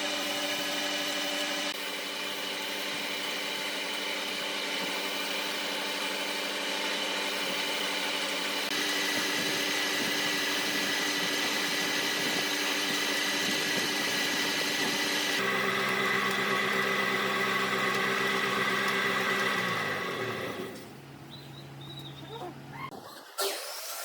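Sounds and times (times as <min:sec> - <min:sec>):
wood lathe motor humming: 0:00.0 - 0:20.8.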